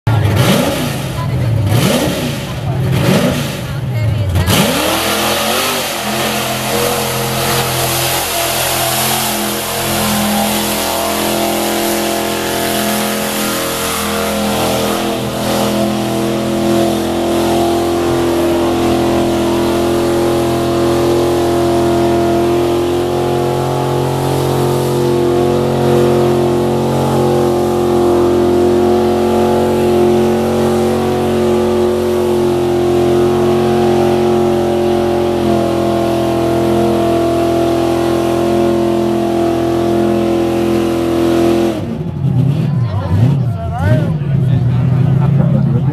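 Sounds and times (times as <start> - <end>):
truck engine revving high: 0.0 - 45.9.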